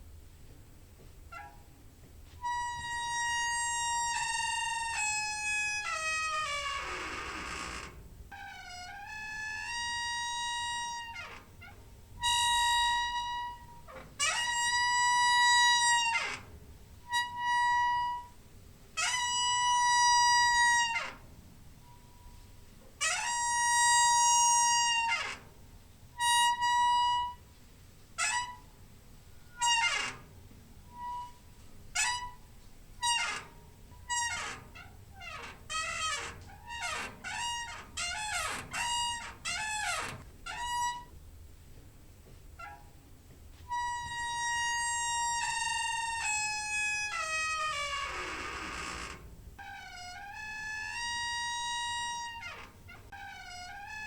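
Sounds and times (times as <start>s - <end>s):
door hinge squeaking: 1.3s - 1.7s, 2.4s - 18.4s, 19.0s - 25.6s, 26.2s - 27.4s, 28.2s - 41.2s, 42.6s - 43.0s, 43.7s - 54.0s.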